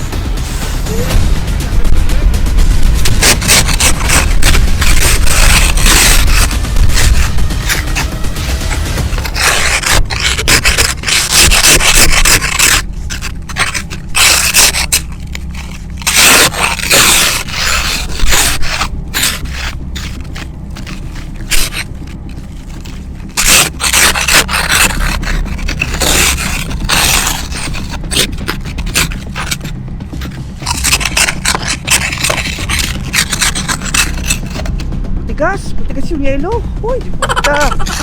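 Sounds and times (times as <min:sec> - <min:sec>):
ice scraper scraping windshield: 0:02.9 - 0:34.8, 0:37.2 - 0:38.0.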